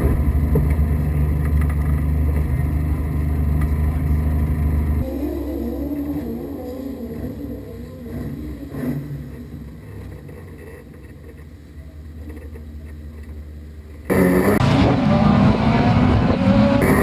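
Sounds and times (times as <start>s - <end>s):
race car engine idling: 0.0s - 14.2s
race car engines revving: 0.0s - 17.0s.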